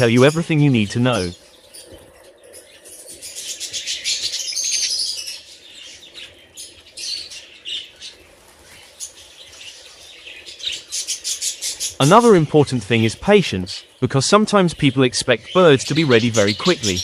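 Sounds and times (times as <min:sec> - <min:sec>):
budgerigars chirping: 0:00.0 - 0:17.0.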